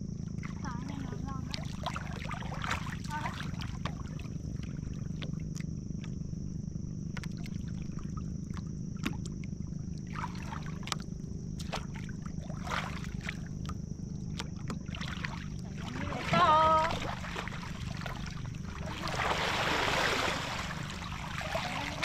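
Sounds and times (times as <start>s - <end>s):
water sloshing and splashing: 0.2s - 22.0s.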